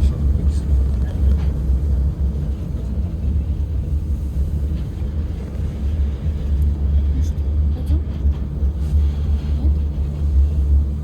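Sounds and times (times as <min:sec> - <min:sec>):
monorail train low rumble: 0:00.0 - 0:11.0.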